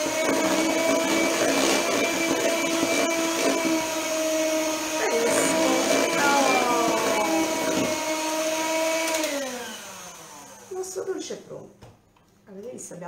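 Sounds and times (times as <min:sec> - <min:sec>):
electric hand mixer whirring: 0:00.0 - 0:11.0.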